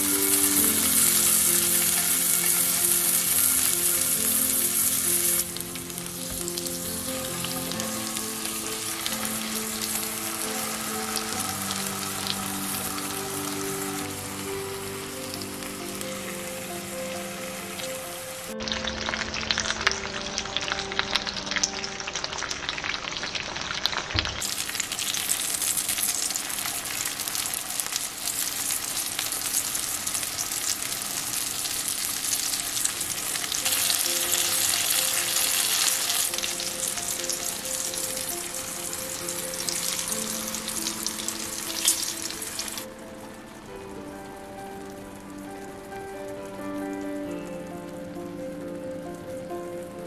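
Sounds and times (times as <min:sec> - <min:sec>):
food sizzling in hot oil: 0:00.0 - 0:43.8.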